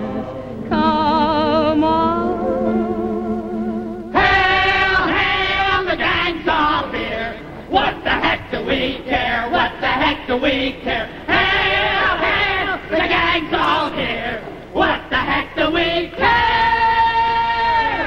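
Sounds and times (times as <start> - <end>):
male vocal quartet singing in harmony: 0.0 - 18.0.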